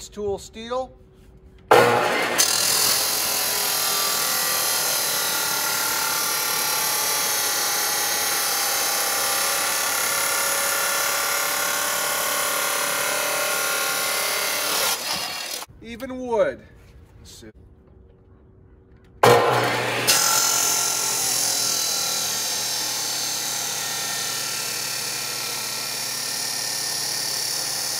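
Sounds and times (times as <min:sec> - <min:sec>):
saw blade grinding through metal: 0:01.7 - 0:15.7, 0:19.2 - 0:27.9.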